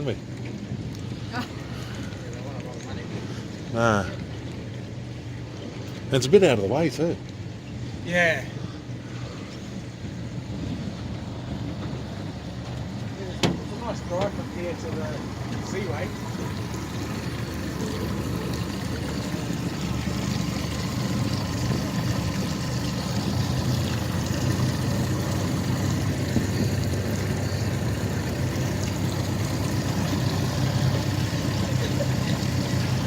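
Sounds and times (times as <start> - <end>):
outboard motors humming: 0.0 - 33.0
water washing along hull: 0.0 - 33.0.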